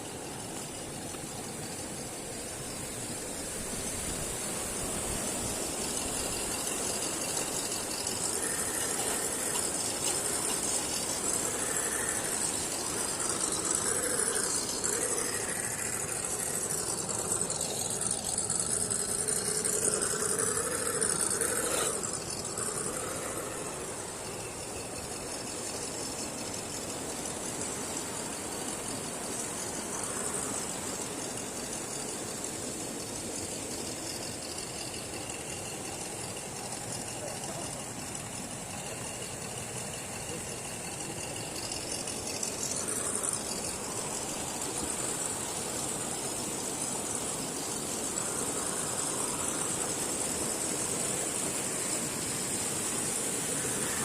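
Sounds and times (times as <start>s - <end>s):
electric motor and gears whining: 0.0s - 54.0s
steady high hiss: 0.0s - 54.0s.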